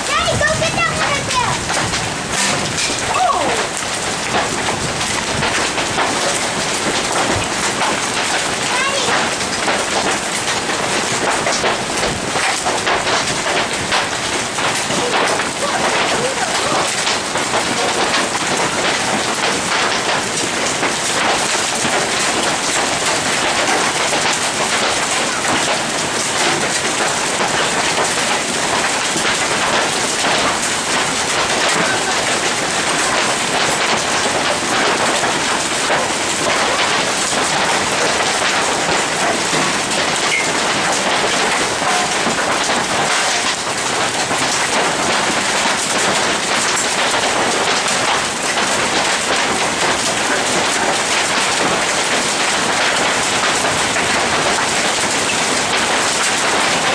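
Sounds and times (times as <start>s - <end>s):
hailstones pelting: 0.0s - 56.9s.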